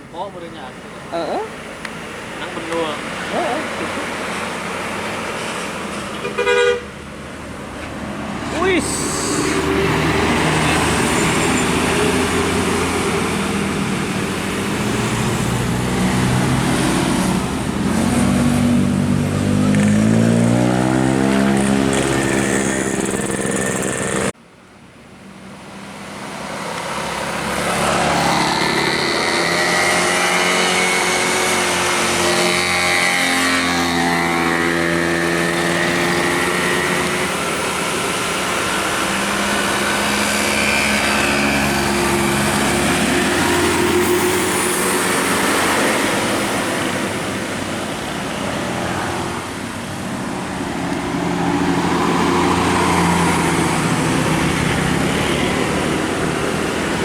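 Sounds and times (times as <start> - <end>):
road noise: 0.0 - 57.0
bus engine revving: 1.0 - 24.4, 26.2 - 57.0.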